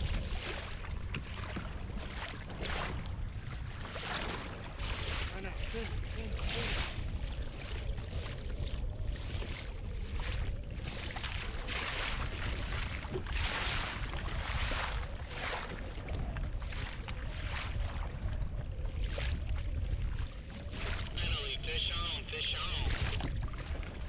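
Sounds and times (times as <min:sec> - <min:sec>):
wind rumble on microphone: 0:00.0 - 0:21.6, 0:22.6 - 0:24.0
water splashing against kayak: 0:00.0 - 0:24.0.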